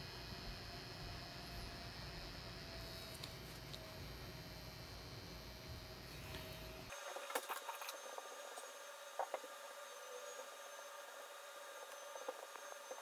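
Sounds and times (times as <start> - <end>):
tattoo machine humming: 0.0 - 13.0.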